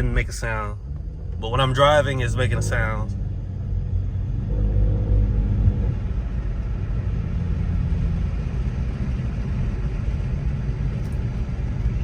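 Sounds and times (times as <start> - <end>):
car engine and exhaust rumble: 0.0 - 12.0.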